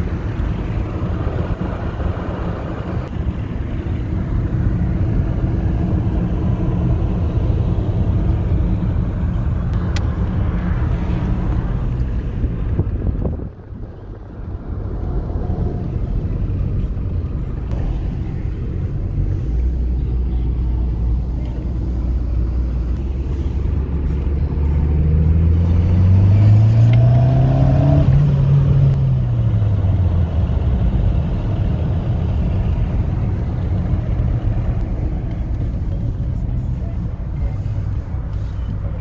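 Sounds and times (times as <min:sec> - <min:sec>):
car cabin engine and road drone: 0:00.0 - 0:39.0.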